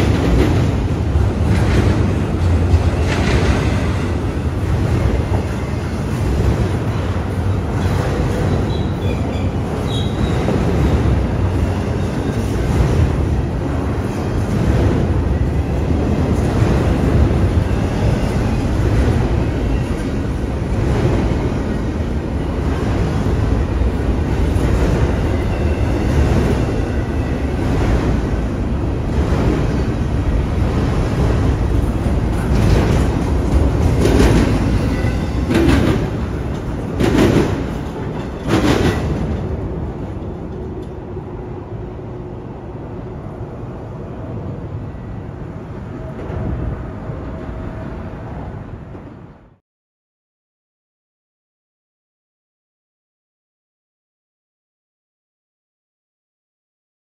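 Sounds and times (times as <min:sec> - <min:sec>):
freight train rolling past: 0:00.0 - 0:49.6.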